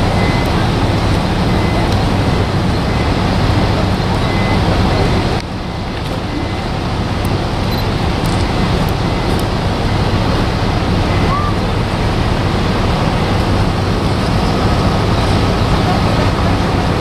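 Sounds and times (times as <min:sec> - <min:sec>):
low engine rumble: 0:00.0 - 0:17.0
road noise: 0:00.0 - 0:17.0.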